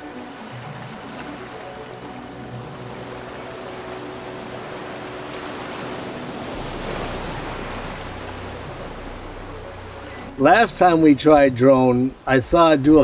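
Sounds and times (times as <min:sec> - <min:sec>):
sea water rushing past hull: 0:00.0 - 0:13.0.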